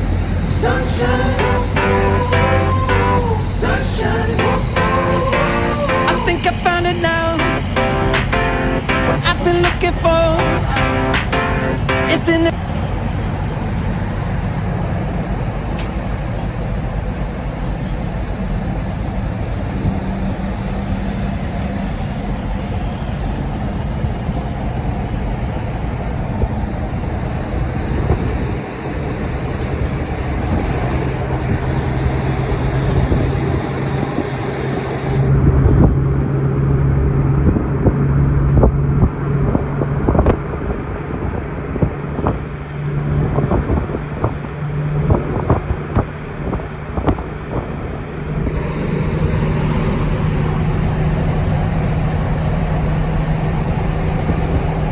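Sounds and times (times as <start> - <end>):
truck engine droning: 0.0 - 23.3, 30.3 - 54.2
road noise: 0.0 - 54.9.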